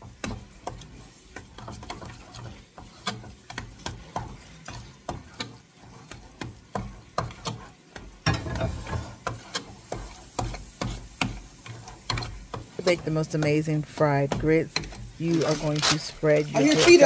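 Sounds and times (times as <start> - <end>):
spoon scraping saucepan: 0.0 - 17.0.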